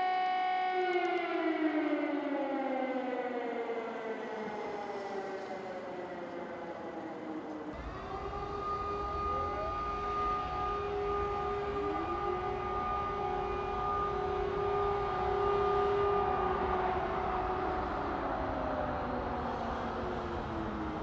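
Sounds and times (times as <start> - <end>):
air-raid sirens wailing: 0.0 - 21.0.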